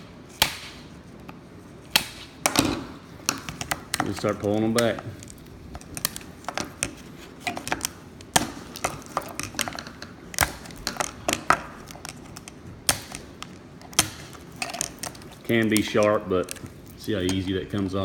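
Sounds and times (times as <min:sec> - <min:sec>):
plastic snapping and cracking: 0:00.0 - 0:18.0.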